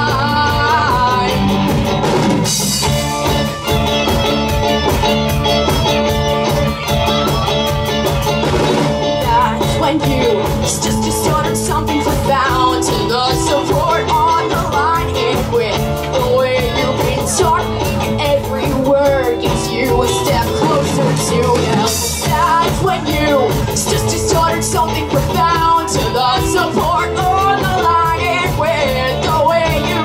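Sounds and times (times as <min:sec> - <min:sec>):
bass guitar: 0:00.0 - 0:30.0
drum kit: 0:00.0 - 0:30.0
electric guitars: 0:00.0 - 0:30.0.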